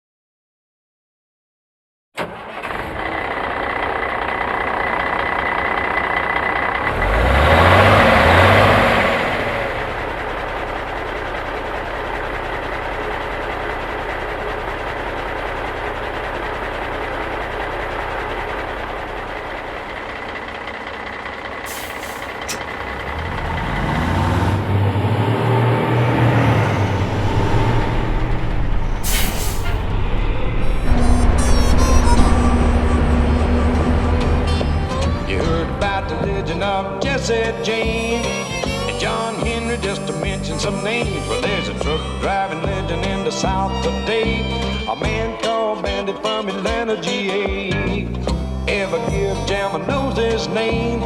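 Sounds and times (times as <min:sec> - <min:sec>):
diesel truck engine revving: 0:02.6 - 0:43.7.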